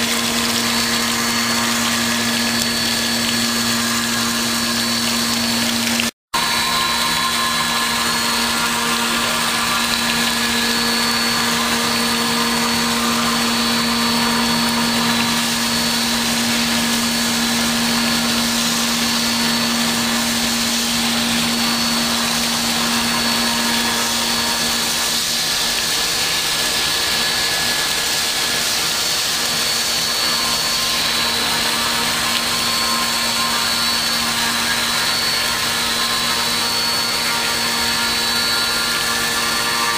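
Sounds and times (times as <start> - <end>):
hiss: 0.0 - 39.9
low hum: 0.0 - 39.9
machine cutting noise: 0.0 - 39.9
steady whining tones: 0.0 - 39.9.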